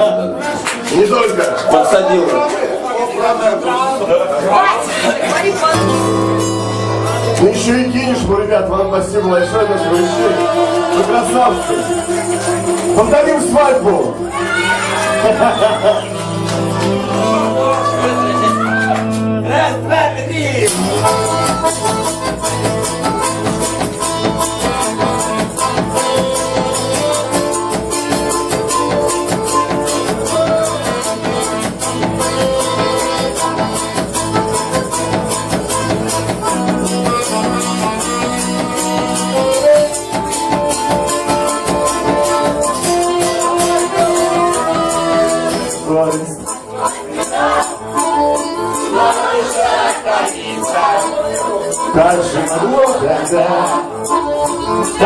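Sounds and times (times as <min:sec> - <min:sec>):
busy percussion rhythm: 0:00.0 - 0:55.0
live band playing: 0:00.0 - 0:55.0
sustained melodic notes: 0:05.6 - 0:55.0.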